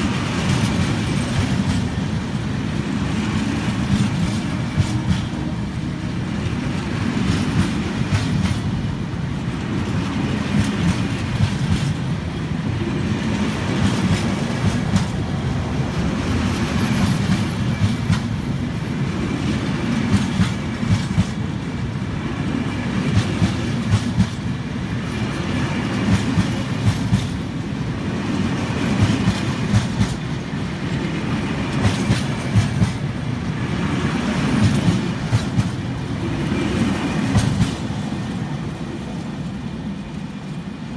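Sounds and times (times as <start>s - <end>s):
wheels clicking over rail joints: 0.0s - 40.6s
train rumbling past: 0.0s - 40.9s.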